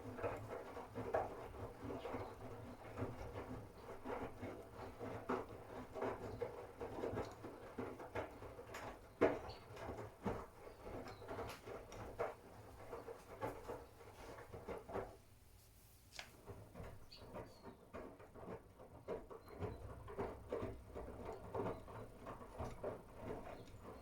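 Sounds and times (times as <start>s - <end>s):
laundry sloshing and thudding in drum: 0.0s - 15.4s, 16.4s - 24.0s.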